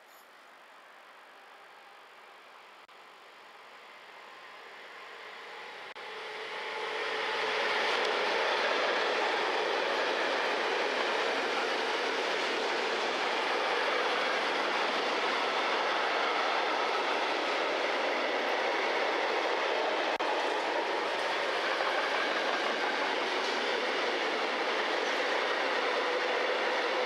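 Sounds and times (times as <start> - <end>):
train wheels rolling on rails: 4.7 - 27.0.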